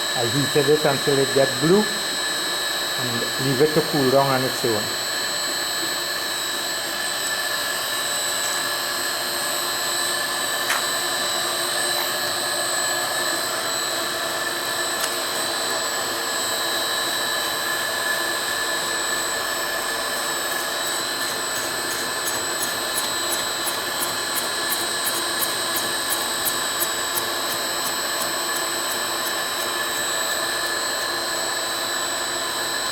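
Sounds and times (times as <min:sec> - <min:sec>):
lathe whining: 0:00.0 - 0:32.9.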